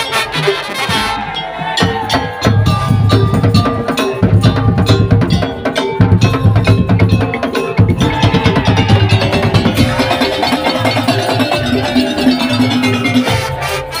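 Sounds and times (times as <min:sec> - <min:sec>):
held melodic notes: 0:00.0 - 0:14.0
wood-block and drum strikes: 0:00.0 - 0:14.0
heavy low drumming: 0:01.8 - 0:13.4.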